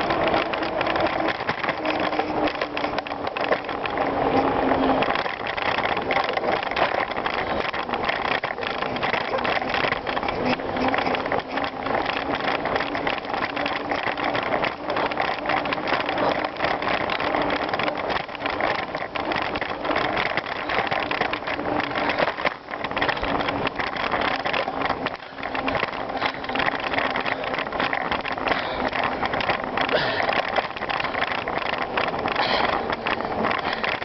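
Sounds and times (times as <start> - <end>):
bicycle tyres rolling on gravel: 0.0 - 34.0.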